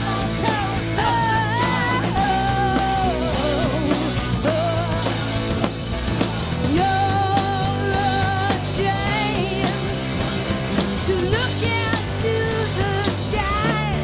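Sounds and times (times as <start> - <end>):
person singing: 0.0 - 5.4, 6.7 - 9.9, 11.1 - 14.0
rock band playing: 0.0 - 14.0.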